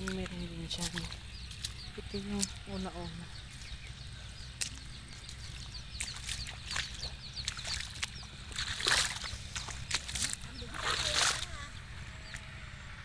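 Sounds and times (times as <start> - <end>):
bare feet splashing through mud: 0.0 - 12.5.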